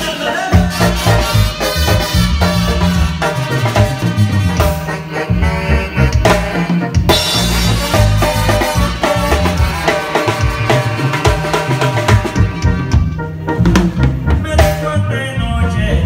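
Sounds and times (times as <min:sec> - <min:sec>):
drums and cymbals: 0:00.0 - 0:15.0
latin dance band playing: 0:00.0 - 0:16.0.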